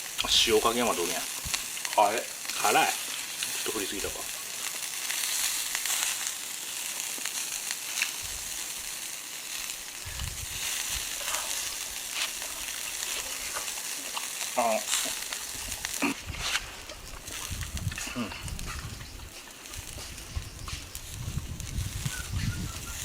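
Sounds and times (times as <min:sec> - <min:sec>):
meat skewers sizzling over charcoal: 0:00.0 - 0:23.0.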